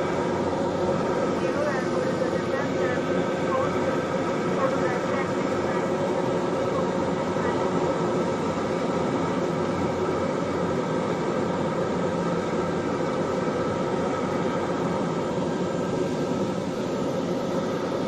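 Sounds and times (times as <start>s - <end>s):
propeller engine drone in cabin: 0.0s - 18.0s.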